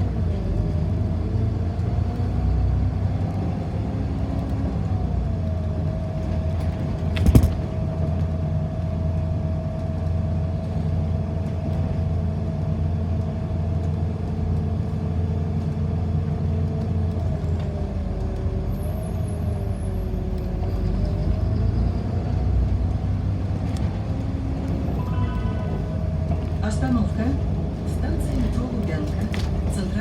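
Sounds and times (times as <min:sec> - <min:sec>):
bus engine rumbling with whine: 0:00.0 - 0:30.0.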